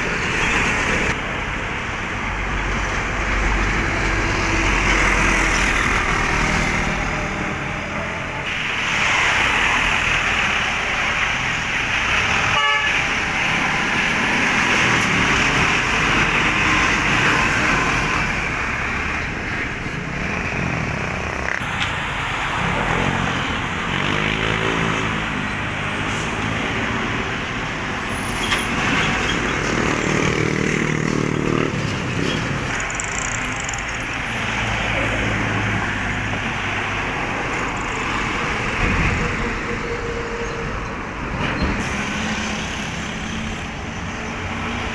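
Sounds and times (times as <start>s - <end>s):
heavy vehicle engine drone: 0.0s - 44.9s
highway traffic passing: 0.0s - 44.9s.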